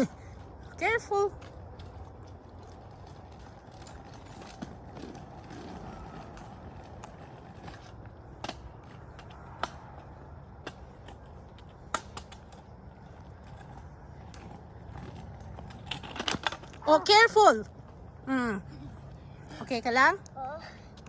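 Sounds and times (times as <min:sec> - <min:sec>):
kick scooters rolling over pavement: 0:00.0 - 0:21.0.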